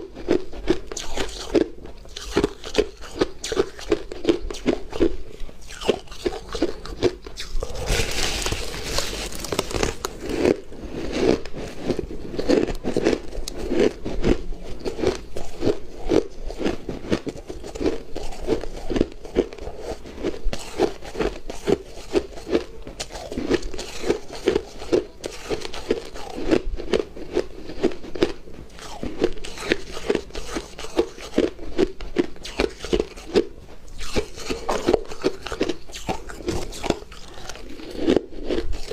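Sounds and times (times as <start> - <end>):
person crunching ice: 0.1 - 38.9.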